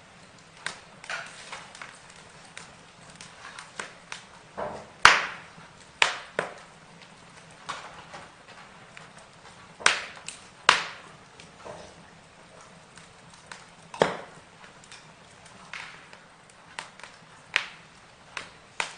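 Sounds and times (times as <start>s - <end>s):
burning wood crackling: 0.0s - 18.9s
soft steady fire hiss: 0.0s - 18.9s.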